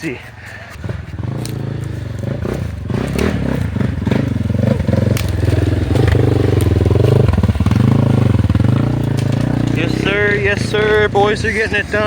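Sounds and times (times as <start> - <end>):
off-road vehicle engine: 0.0 - 12.0.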